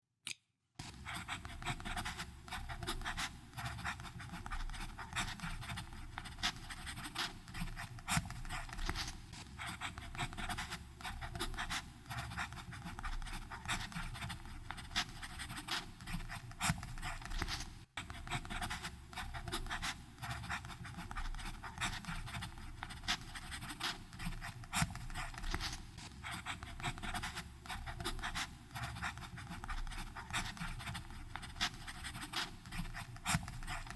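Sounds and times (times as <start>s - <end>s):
pen nib scratching on paper: 0.8s - 33.9s.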